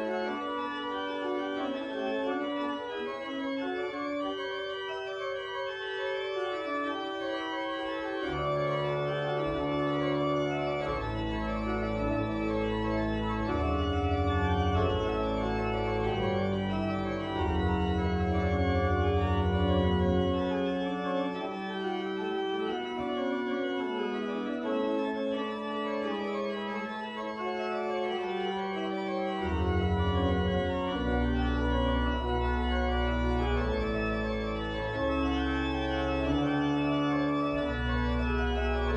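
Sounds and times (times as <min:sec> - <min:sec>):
church organ chords: 0:00.0 - 0:38.9
deep organ pedal bass notes: 0:00.0 - 0:38.9.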